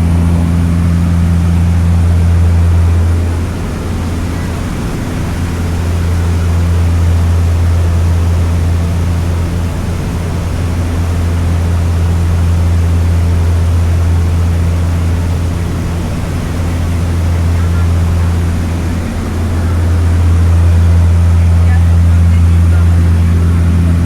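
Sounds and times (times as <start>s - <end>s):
seaplane propeller engines droning: 0.0s - 24.0s.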